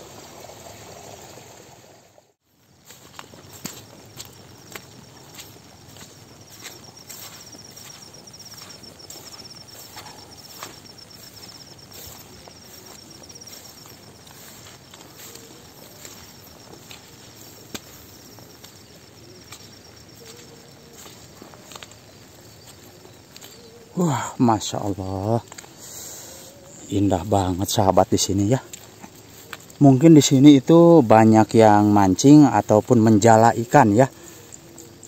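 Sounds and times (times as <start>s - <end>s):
footsteps on grass and soil: 2.4s - 34.1s
insect trilling: 2.5s - 35.0s.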